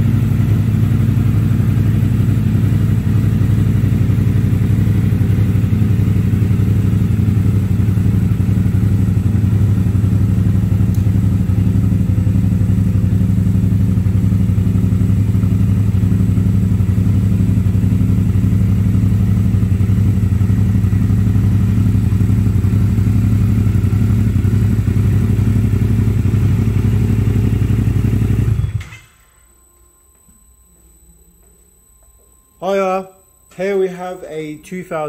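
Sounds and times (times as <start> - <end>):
motorcycle engine idling: 0.0 - 28.8.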